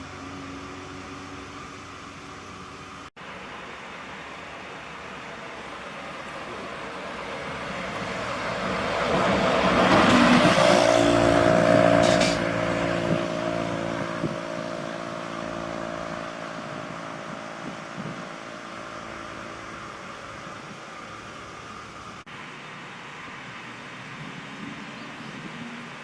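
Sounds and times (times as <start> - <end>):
large truck diesel engine: 0.0 - 26.0.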